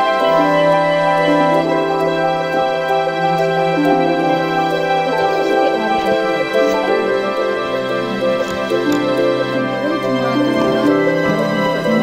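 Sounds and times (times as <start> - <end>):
slow sustained music: 0.0 - 12.0.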